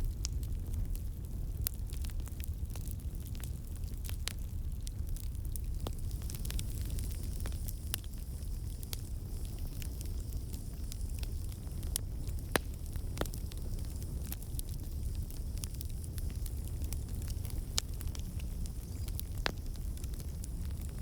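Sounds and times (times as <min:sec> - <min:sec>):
campfire rumble and hiss: 0:00.0 - 0:21.0
wood crackling and popping: 0:00.0 - 0:21.0.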